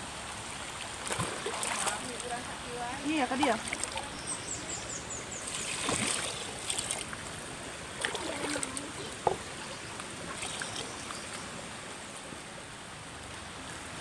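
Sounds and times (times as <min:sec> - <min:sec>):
rocky stream flowing: 0:00.0 - 0:14.0.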